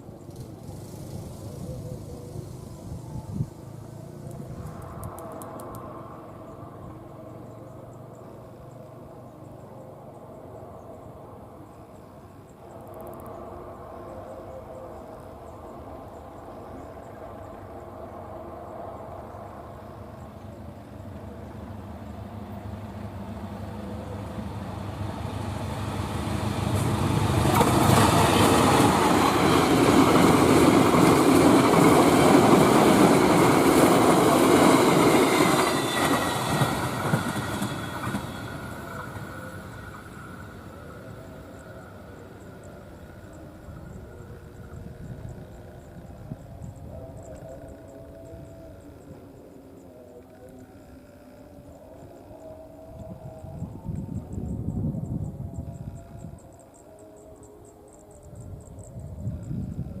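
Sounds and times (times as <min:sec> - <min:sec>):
passenger train passing at speed: 0:00.0 - 1:00.0.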